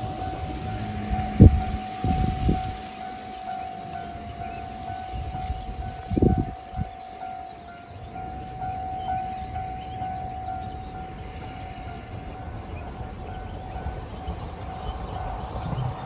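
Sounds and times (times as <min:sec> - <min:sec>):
distant level crossing alarm: 0:00.0 - 0:16.0.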